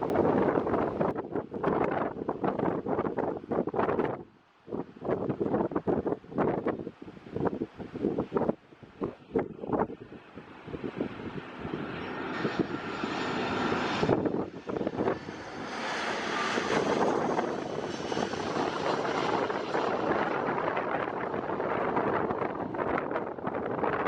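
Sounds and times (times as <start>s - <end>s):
airliner jet engines: 0.0s - 24.0s.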